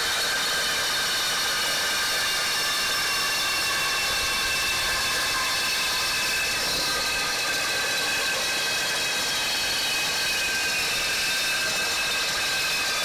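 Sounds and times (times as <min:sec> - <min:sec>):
reciprocating saw cutting metal: 0:00.0 - 0:13.0.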